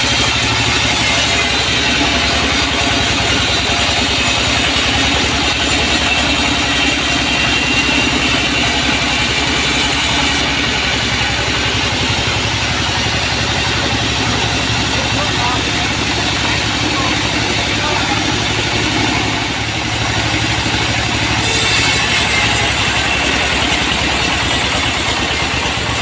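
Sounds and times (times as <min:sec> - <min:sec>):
sawmill motor drone: 0:00.0 - 0:26.0.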